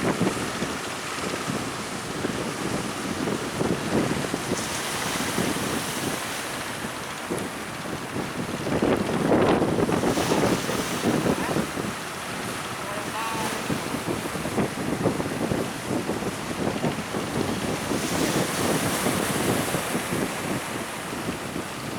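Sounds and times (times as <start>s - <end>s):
waves breaking: 0.0s - 21.9s
wind buffeting microphone: 0.0s - 21.9s.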